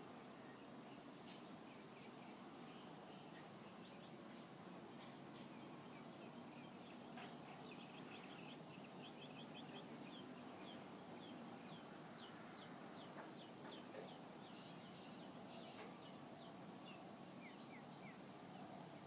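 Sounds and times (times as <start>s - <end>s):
low steady background hiss: 0.0s - 19.0s.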